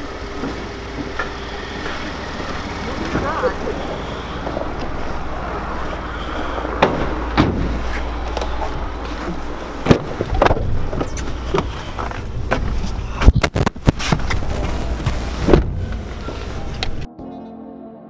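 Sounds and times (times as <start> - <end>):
vehicle engine idling: 0.0 - 17.1.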